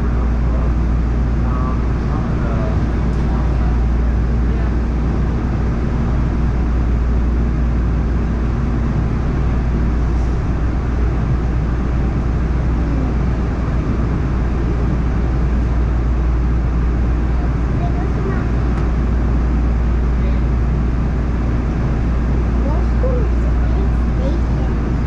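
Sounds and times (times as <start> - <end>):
faint hum: 0.0 - 25.0
train low rumble: 0.0 - 25.0.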